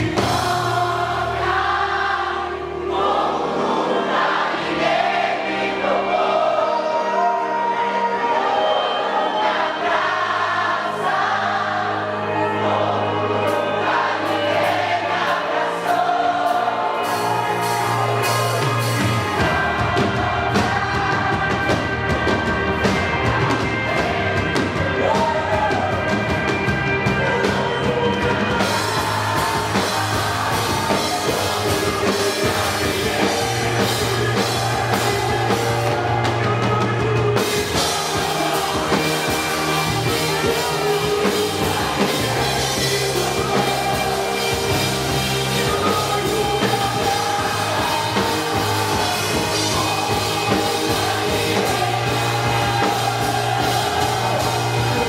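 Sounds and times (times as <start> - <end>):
worship song with band: 0.0 - 55.0.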